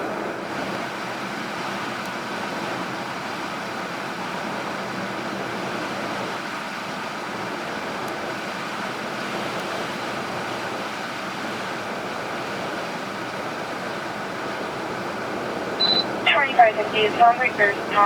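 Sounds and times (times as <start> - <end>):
road and wind noise in car cabin: 0.0 - 18.0.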